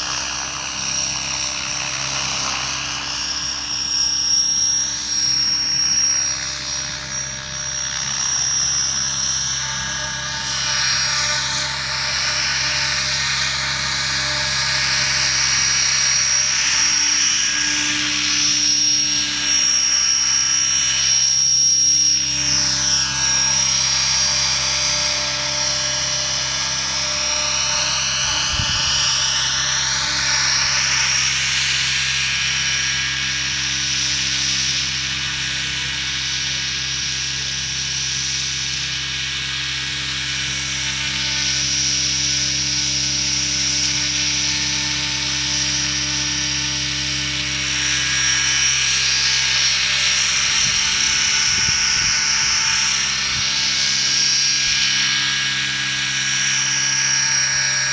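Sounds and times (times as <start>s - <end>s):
model helicopter engine and rotors: 0.0s - 57.9s.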